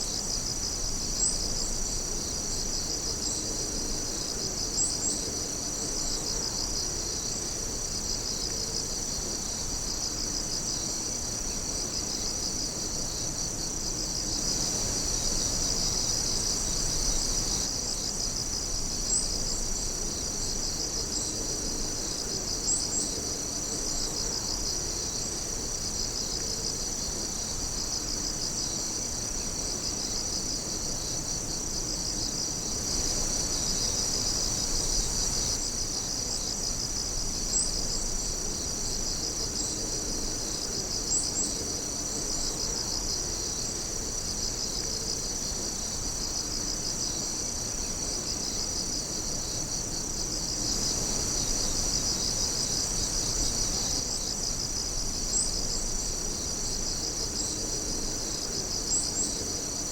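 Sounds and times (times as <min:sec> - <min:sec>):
fast pulsing insect trill: 0:00.0 - 0:44.8, 0:45.4 - 0:59.9
insects chirping and trilling: 0:00.0 - 0:59.9.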